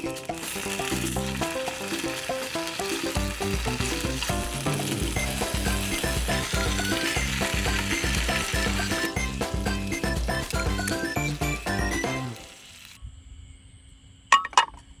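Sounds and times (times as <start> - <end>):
background music with plucked melody: 0.0 - 12.5
food sizzling: 0.0 - 13.0.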